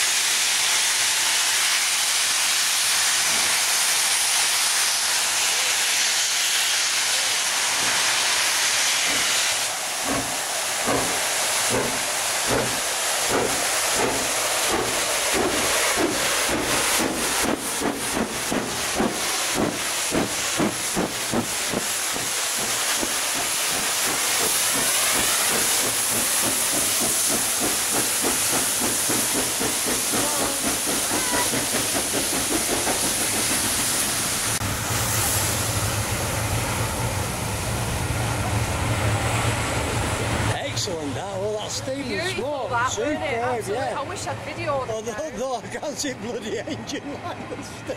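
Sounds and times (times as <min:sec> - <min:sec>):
steam locomotive exhaust beats: 0:00.0 - 0:41.9
steam hissing: 0:00.0 - 0:43.4.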